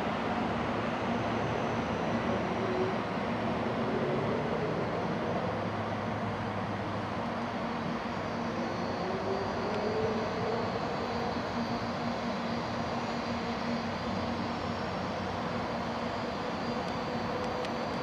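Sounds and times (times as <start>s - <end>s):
train rumbling into station: 0.0s - 18.0s.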